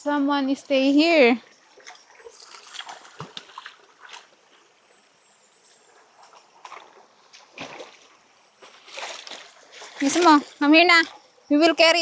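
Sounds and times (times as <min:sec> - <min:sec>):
faint trickling water: 0:00.0 - 0:12.0.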